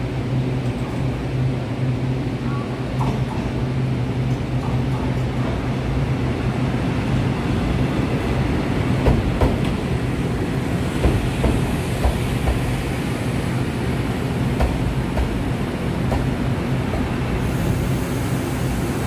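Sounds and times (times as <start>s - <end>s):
train wheels rumbling: 3.0s - 19.0s.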